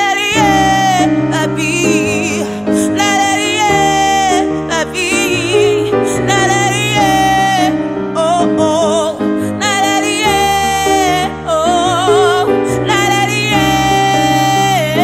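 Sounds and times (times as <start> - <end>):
piano chords: 0.0 - 15.0
woman singing with vibrato: 0.0 - 15.0.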